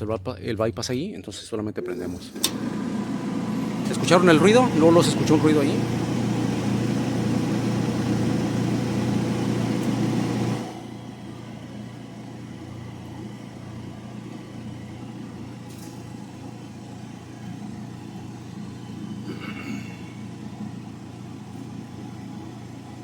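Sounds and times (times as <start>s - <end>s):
clothes dryer motor and blower hum: 1.9s - 23.0s.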